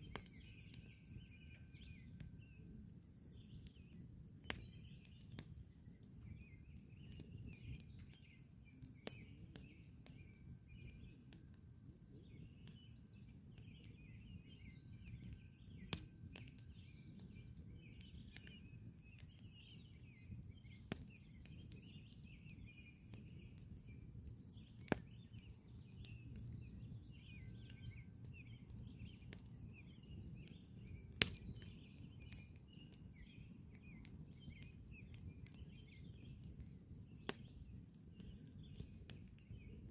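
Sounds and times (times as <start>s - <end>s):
campfire crackling and popping: 0.0s - 39.9s
small birds chirping: 0.0s - 39.9s.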